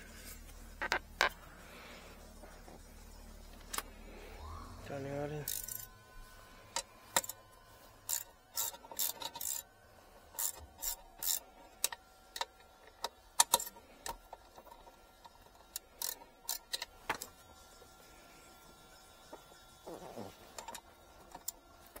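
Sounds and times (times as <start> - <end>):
ratchet clicking and scraping: 0.0 - 22.0.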